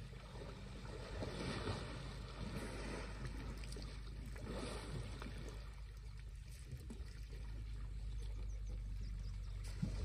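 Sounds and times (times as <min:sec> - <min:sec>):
low rumble: 0:00.0 - 0:10.0
water splashing and sloshing: 0:00.0 - 0:10.0.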